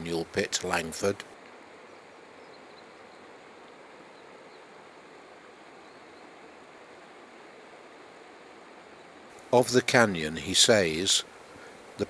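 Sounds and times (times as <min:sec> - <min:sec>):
distant river white water rush: 0:00.0 - 0:12.0.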